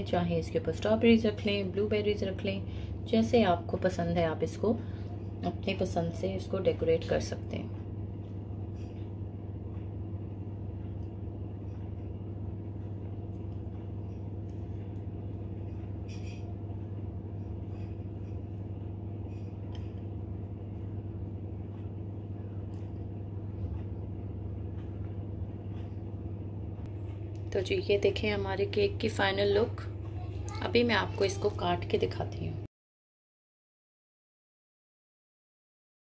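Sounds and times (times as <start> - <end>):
low machine hum: 0.0 - 32.7.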